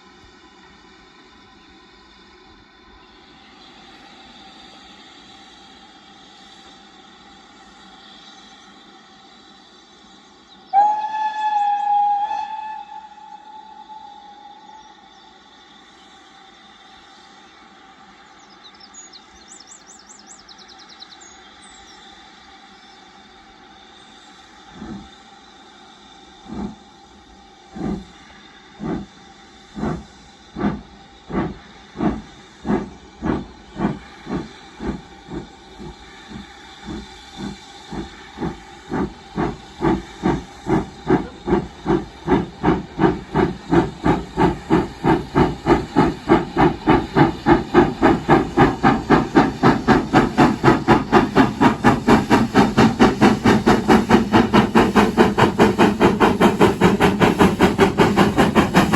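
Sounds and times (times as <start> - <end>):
steam hissing: 0.0 - 58.9
steam locomotive exhaust chuffing: 0.0 - 58.9.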